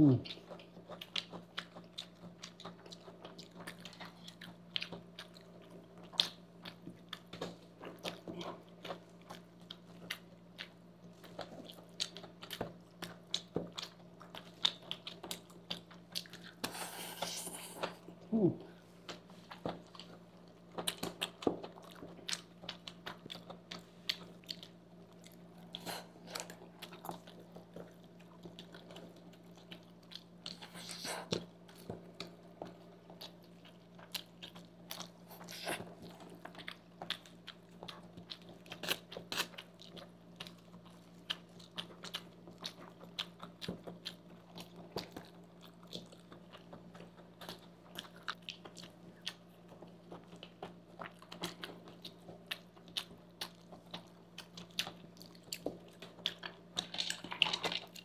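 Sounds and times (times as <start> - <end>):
faint low hum: 0.0 - 58.0
people chewing pasta: 0.0 - 58.0.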